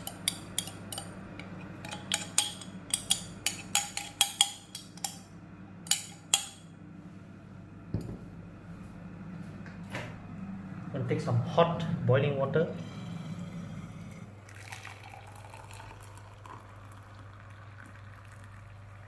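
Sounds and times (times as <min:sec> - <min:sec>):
low hum: 0:00.1 - 0:19.0.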